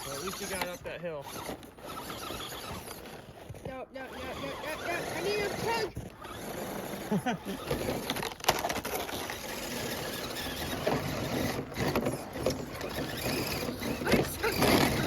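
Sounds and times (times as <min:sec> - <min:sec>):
electric motor and gear whine: 0:00.0 - 0:03.3, 0:04.0 - 0:15.0
tyres and plastic scraping: 0:00.0 - 0:15.0.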